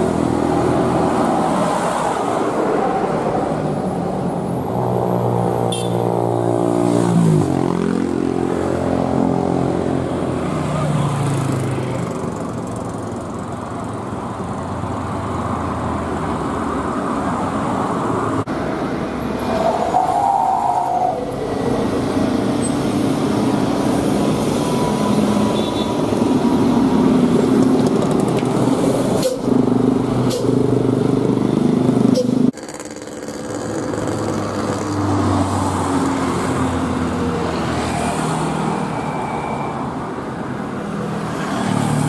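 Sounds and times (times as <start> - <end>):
bus engines running: 0.0 - 32.7, 33.5 - 42.0
traffic noise: 0.0 - 42.0.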